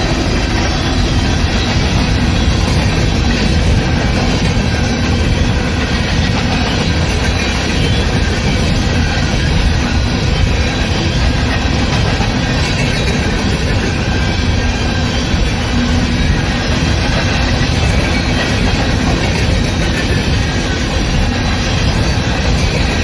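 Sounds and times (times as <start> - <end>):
train cars rumbling and rattling: 0.0 - 23.0.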